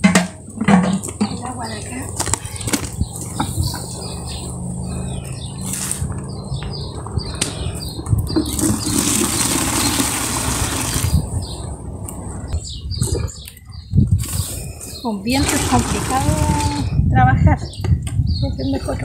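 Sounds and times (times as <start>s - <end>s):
wind buffeting microphone: 0.9s - 19.0s.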